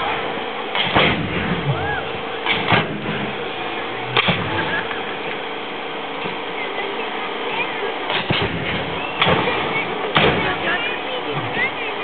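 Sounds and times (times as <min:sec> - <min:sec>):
crowd murmur: 0:00.0 - 0:12.0.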